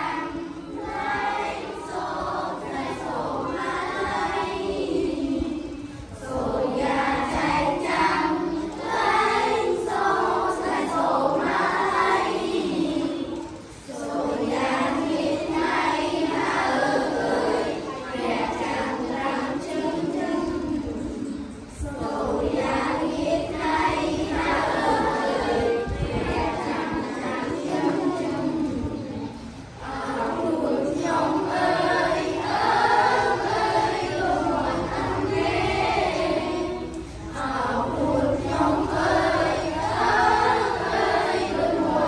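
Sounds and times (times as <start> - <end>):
children singing in unison: 0.0 - 42.0.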